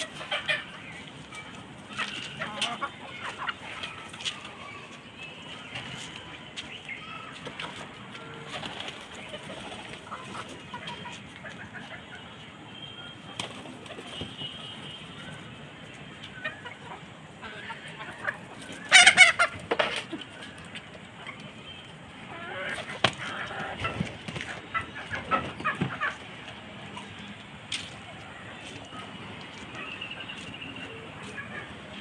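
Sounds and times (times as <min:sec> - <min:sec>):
chickens clucking: 0:00.0 - 0:12.6, 0:13.2 - 0:32.0.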